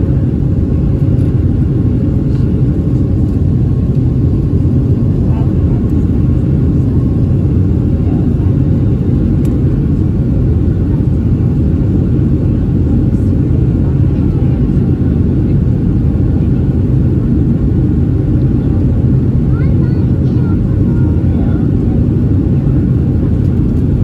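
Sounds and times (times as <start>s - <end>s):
airplane engines rumbling in cabin: 0.0s - 24.0s.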